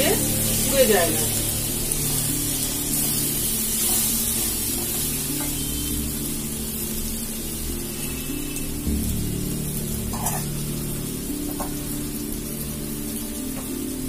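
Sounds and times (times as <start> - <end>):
background music with low notes: 0.0 - 14.0
onions sizzling in a wok: 0.0 - 14.0.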